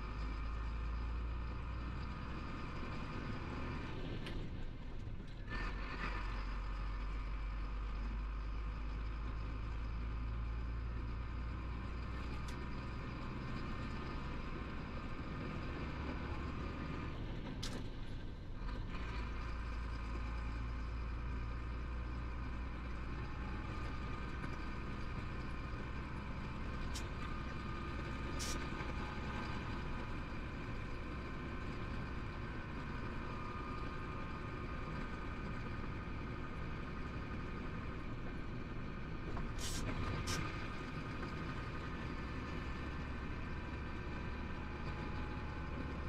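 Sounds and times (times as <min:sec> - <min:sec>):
truck diesel engine drone: 0:00.0 - 0:46.0.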